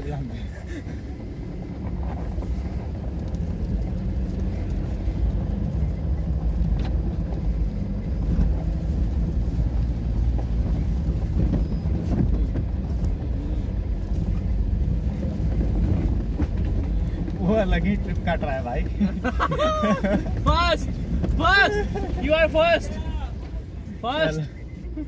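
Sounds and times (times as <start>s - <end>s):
engine low drone: 0.0s - 25.0s.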